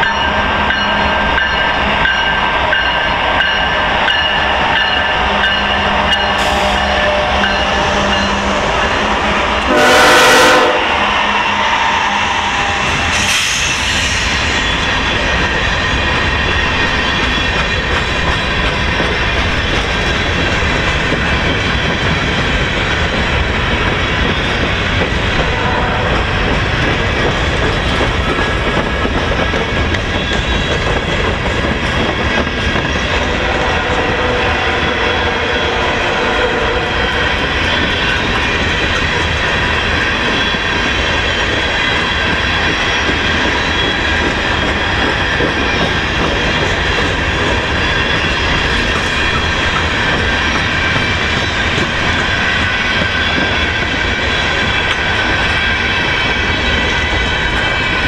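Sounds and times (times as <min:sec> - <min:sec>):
train wheels clattering on rails: 0:00.0 - 0:58.0.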